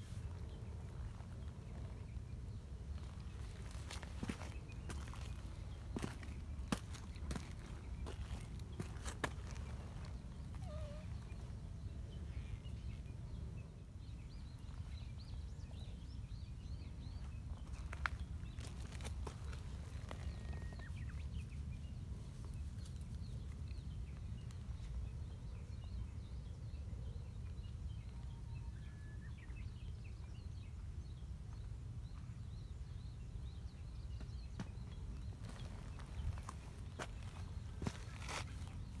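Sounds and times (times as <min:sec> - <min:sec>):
low outdoor rumble: 0:00.0 - 0:39.0
small bird singing: 0:00.0 - 0:39.0.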